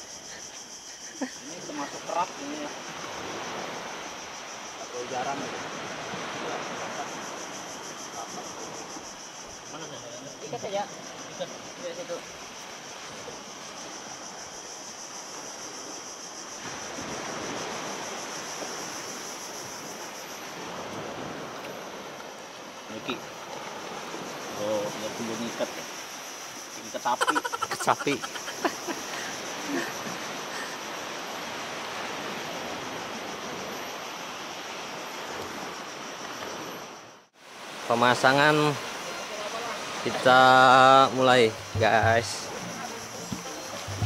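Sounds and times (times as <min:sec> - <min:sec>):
steady high hiss: 0:00.0 - 0:21.4, 0:22.0 - 0:36.2, 0:36.8 - 0:44.0
surf washing on beach: 0:00.0 - 0:44.0
wind: 0:00.0 - 0:44.0.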